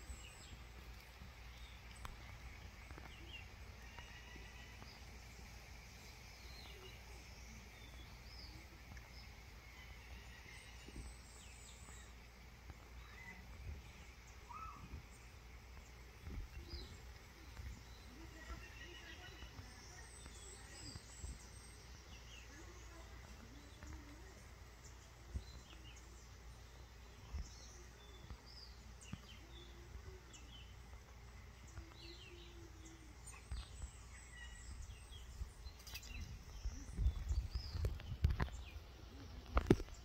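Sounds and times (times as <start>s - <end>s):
faint bird chirps: 0.0s - 40.0s
steady low rumble: 4.8s - 40.0s.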